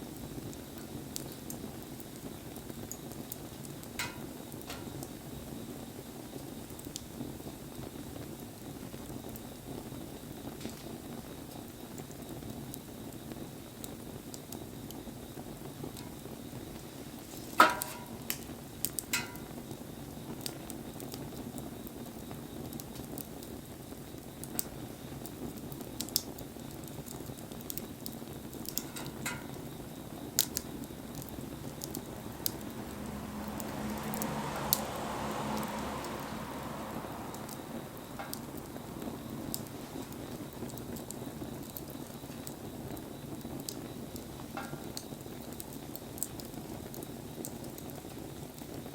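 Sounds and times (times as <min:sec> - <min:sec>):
bonfire crackling and popping: 0:00.0 - 0:48.9
steady hiss: 0:00.0 - 0:48.9.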